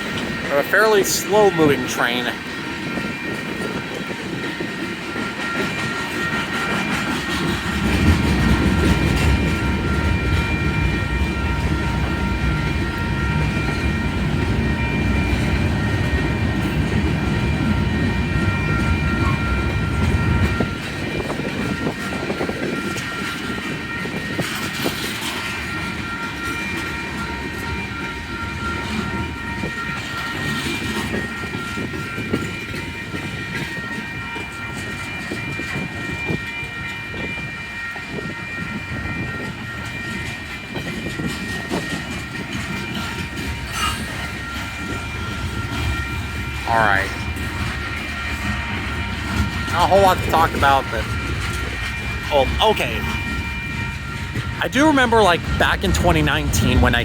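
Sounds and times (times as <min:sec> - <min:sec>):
crossing signal ringing: 0:00.0 - 0:57.0
freight train wheels clacking: 0:00.0 - 0:57.0
train rumble: 0:00.0 - 0:57.0.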